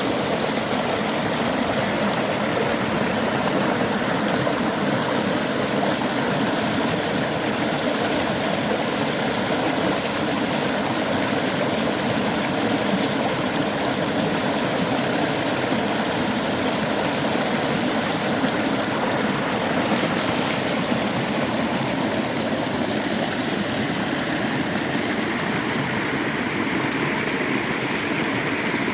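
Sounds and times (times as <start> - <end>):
stream water splashing over rocks: 0.0 - 28.9.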